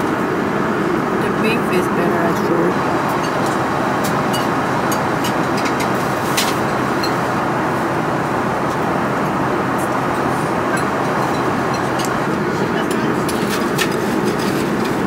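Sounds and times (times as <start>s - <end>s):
airliner cabin noise: 0.0s - 15.0s.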